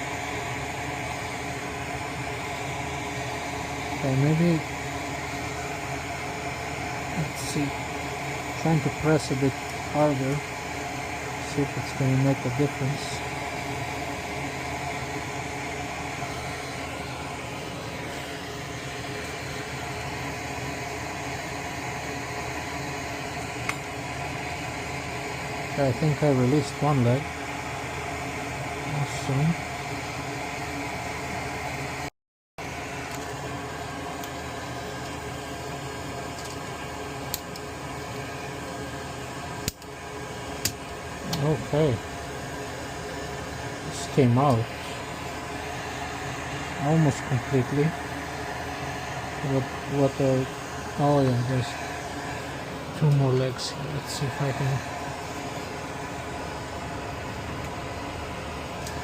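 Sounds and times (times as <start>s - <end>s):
small fan whirring: 0.0s - 59.0s
small motor humming: 0.0s - 59.0s.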